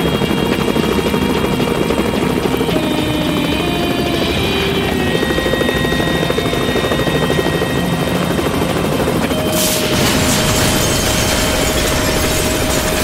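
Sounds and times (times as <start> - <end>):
helicopter rotor throb and whine: 0.0 - 13.0.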